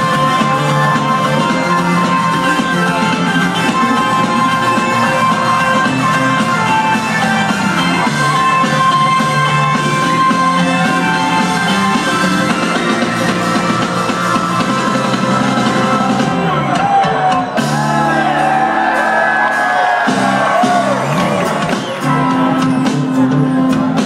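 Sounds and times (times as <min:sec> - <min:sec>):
crowd whooping and shouting: 0:00.0 - 0:22.7
rock band playing loud: 0:00.0 - 0:24.0.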